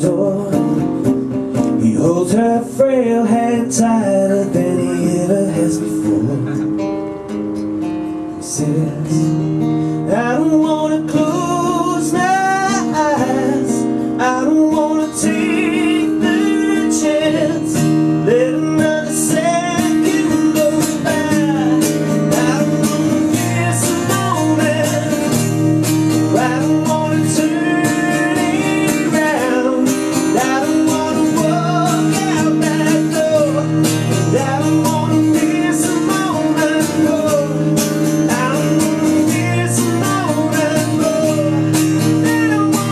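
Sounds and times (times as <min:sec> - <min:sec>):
strummed acoustic guitar: 0:00.0 - 0:42.9.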